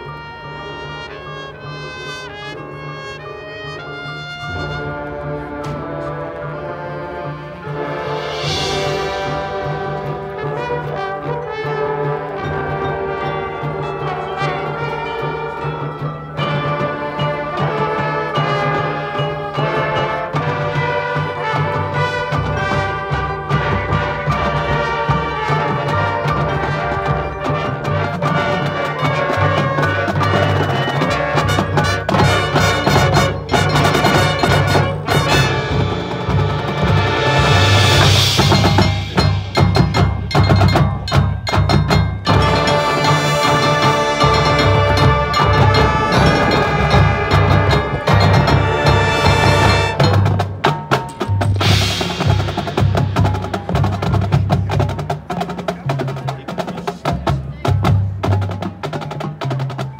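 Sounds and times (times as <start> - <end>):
marching band playing: 0.0 - 59.9
sharp percussion hits: 7.6 - 56.4.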